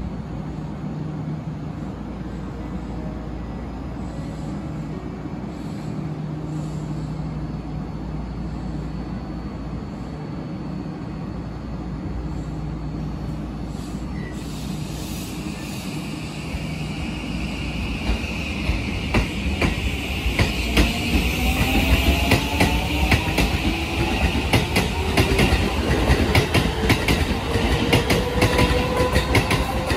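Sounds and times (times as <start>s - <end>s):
electric train humming and whining: 0.0s - 29.9s.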